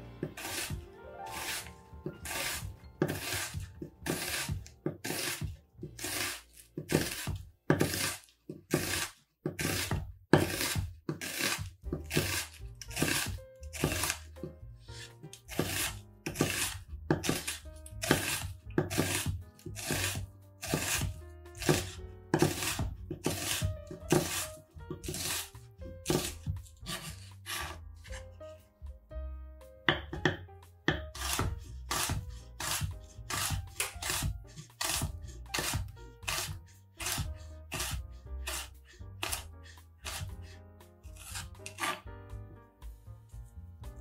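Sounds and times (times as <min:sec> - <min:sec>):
soft background music: 0:00.0 - 0:44.0
knife slicing onion on board: 0:00.2 - 0:28.3, 0:29.9 - 0:42.1.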